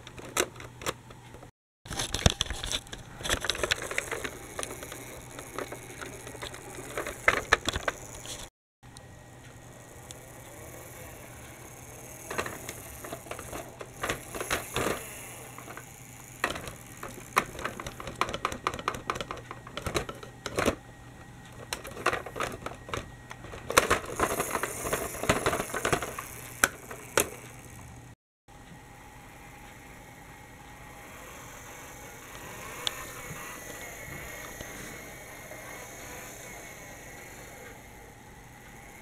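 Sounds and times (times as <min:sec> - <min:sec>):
plastic toy bus clicking on track: 0:00.0 - 0:08.5, 0:10.0 - 0:20.8, 0:21.4 - 0:28.0, 0:31.1 - 0:39.0.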